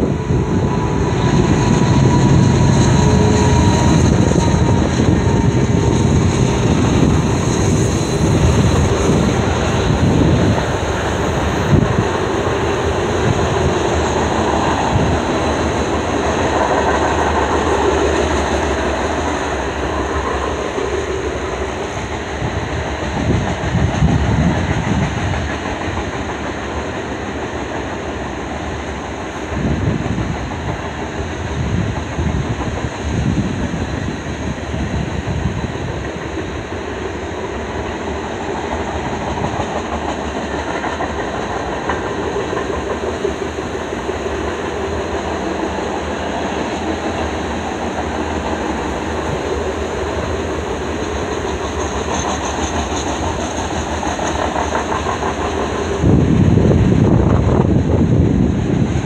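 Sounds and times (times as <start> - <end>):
train rumble: 0.0 - 59.0
train wheels clattering on rails: 0.0 - 59.0.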